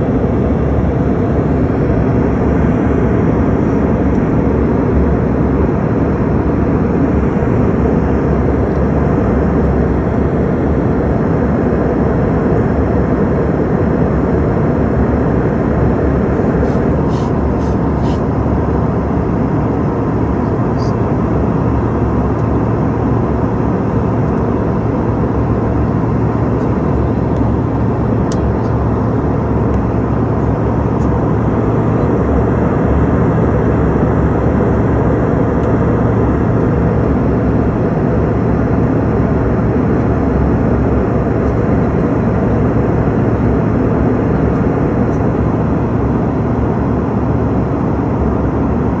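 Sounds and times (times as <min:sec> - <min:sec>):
jet aircraft hum: 0:00.0 - 0:49.0.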